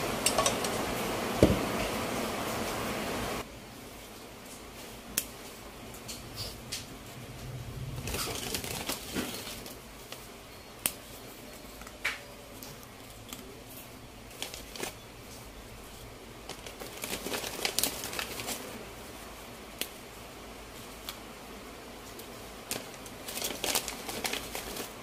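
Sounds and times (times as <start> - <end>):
rustling and crinkling: 3.9 - 21.3, 22.0 - 25.0.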